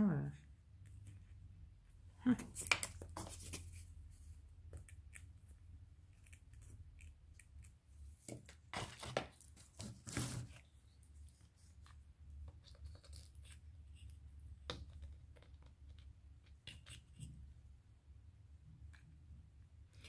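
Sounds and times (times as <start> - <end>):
rustling and clicks of decorations: 0.0 - 17.7.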